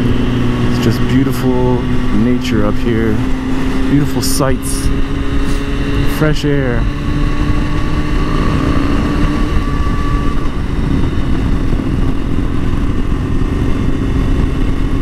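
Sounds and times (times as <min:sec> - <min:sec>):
heavy wind rush: 0:00.0 - 0:15.0
motorcycle engine cruising: 0:00.0 - 0:15.0.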